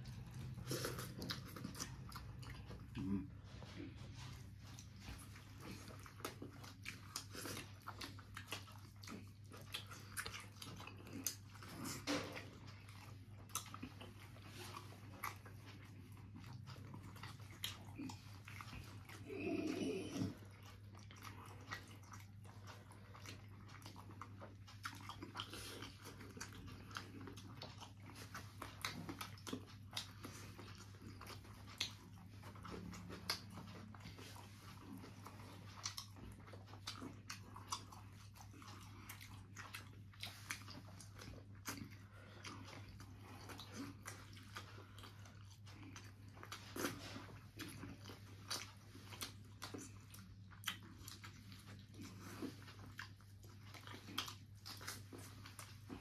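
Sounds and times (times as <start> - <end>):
wet chewing and lip smacks: 0.0 - 56.0.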